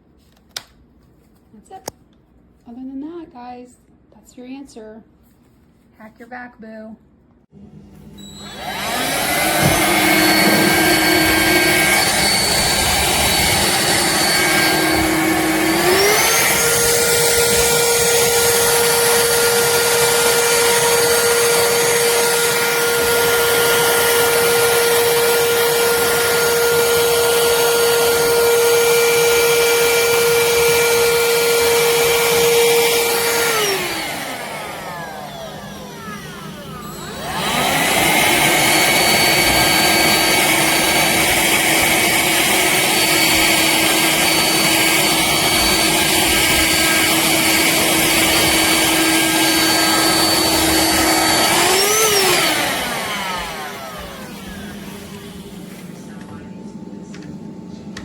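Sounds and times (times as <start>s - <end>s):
stick vacuum motor whine: 7.6s - 58.0s.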